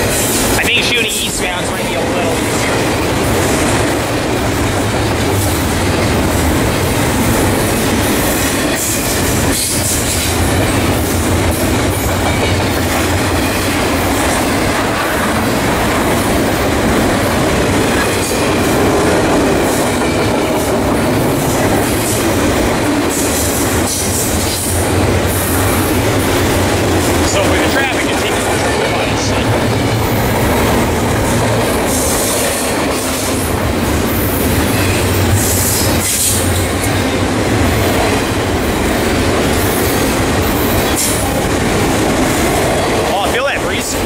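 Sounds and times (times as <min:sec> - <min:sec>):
steel wheels running on rails: 0:00.0 - 0:44.0.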